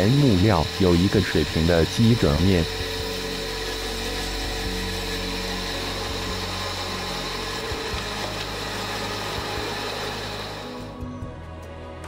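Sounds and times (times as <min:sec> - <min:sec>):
band saw cutting log: 0:00.0 - 0:11.0.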